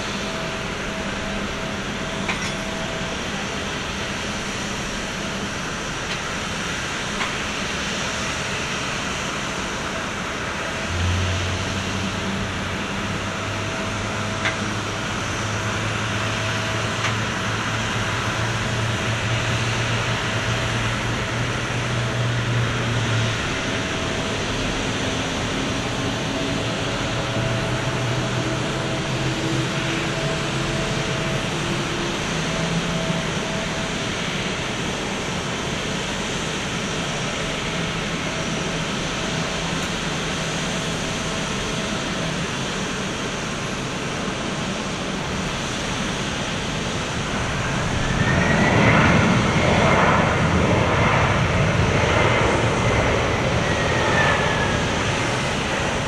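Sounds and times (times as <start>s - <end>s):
jet engine hiss: 0.0s - 56.0s
jet engine whine rising: 0.0s - 56.0s.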